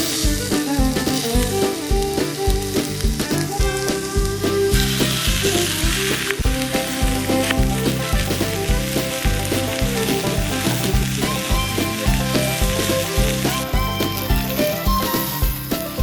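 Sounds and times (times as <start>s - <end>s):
background music with steady beat: 0.0s - 16.0s
food sizzling in a pan: 0.0s - 16.0s.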